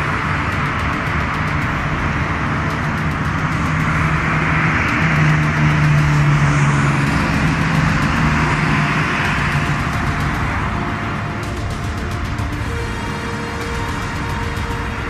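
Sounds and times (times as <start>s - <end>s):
low car engine hum: 0.0s - 15.0s
road noise: 0.0s - 15.0s.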